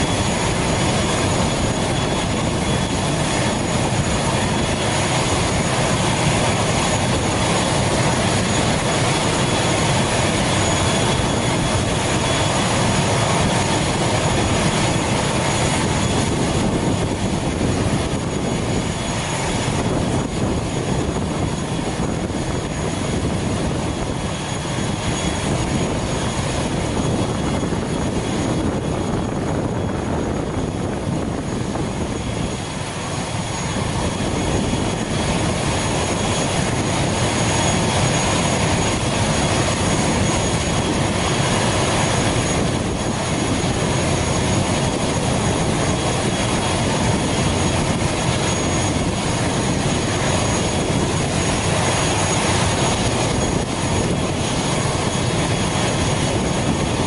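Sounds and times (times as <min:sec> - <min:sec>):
turboprop engine idling: 0:00.0 - 0:57.0.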